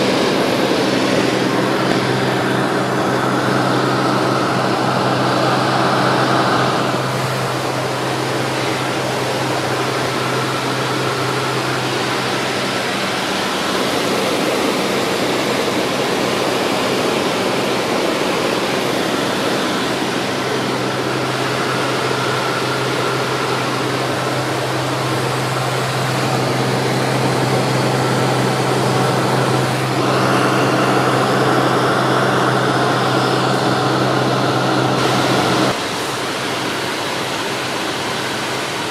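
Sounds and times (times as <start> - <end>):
piston engine and propeller drone: 0.0 - 38.9.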